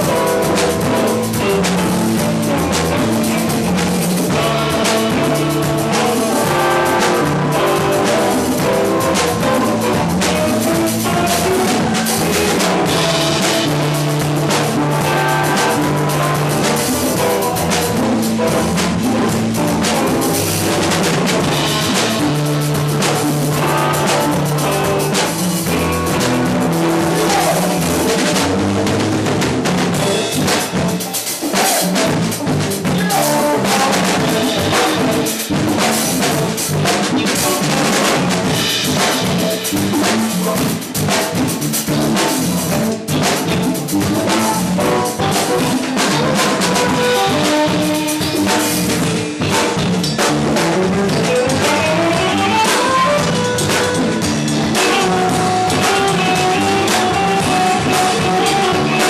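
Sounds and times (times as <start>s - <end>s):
bass guitar: 0.0s - 59.0s
congas: 0.0s - 59.0s
drum kit: 0.0s - 59.0s
electric guitar: 0.0s - 59.0s.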